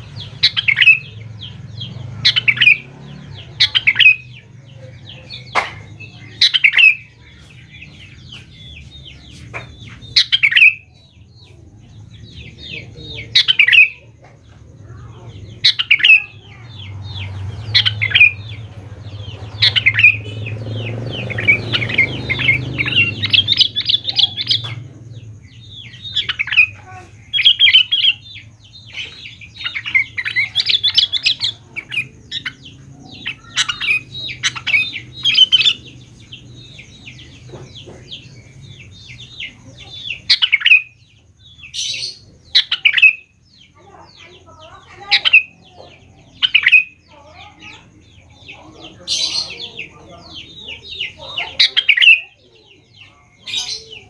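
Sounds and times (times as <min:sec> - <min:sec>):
bird singing chattering calls: 0:00.0 - 0:54.0.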